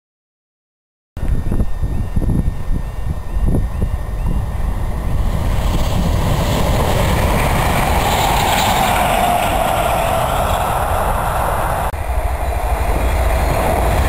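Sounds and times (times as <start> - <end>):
steady low rumble: 1.2 - 14.0
distant electric train passing: 1.7 - 14.0.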